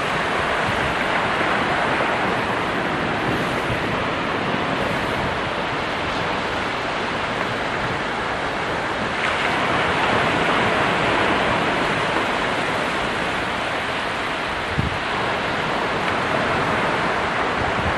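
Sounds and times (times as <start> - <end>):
waves breaking on shore: 0.0 - 17.9.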